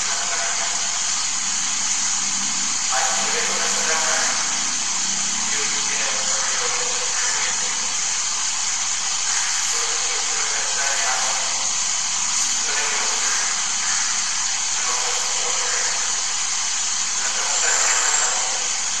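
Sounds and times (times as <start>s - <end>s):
faint man's voice: 0.0s - 1.3s, 2.1s - 8.0s, 9.3s - 16.2s, 17.2s - 19.0s
loud steady hiss: 0.0s - 19.0s.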